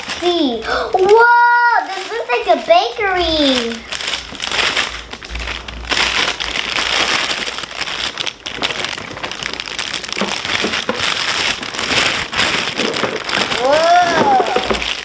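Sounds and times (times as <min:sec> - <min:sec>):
plastic bag crinkling: 0:00.0 - 0:15.0
toy pieces shifting in bag: 0:00.0 - 0:15.0.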